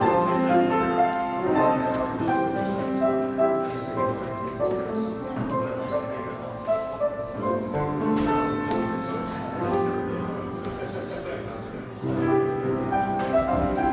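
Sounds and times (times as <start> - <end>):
instrumental music with held notes: 0.0 - 13.9.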